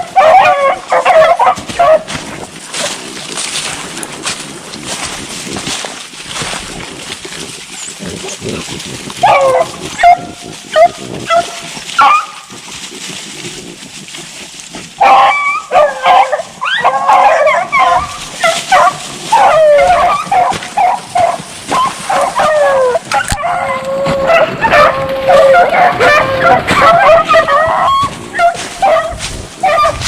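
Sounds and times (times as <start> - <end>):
hounds baying and yelping: 0.0 - 3.6, 7.7 - 13.2, 14.7 - 30.0
steady rustle: 0.0 - 30.0.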